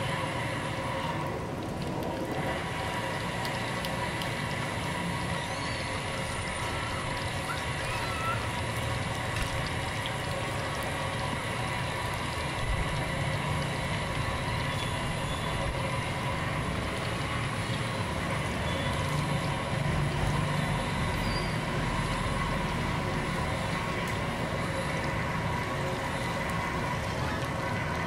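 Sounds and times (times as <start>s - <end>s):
cakes sizzling in hot oil: 2.3s - 28.0s.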